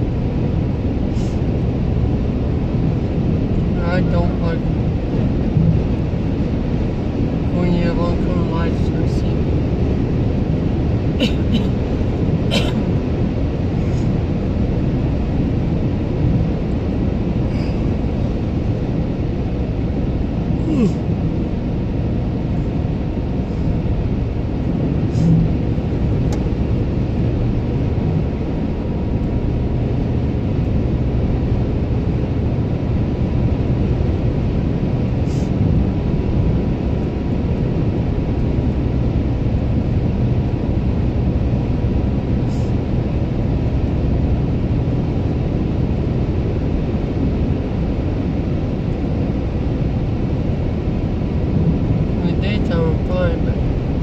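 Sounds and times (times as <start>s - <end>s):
car cabin road and engine noise: 0.0s - 54.0s.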